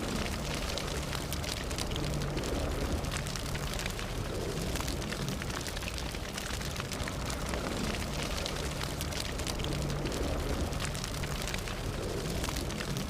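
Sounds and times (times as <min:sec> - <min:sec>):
fire crackling and popping: 0:00.0 - 0:13.0
fire roaring: 0:00.0 - 0:13.0.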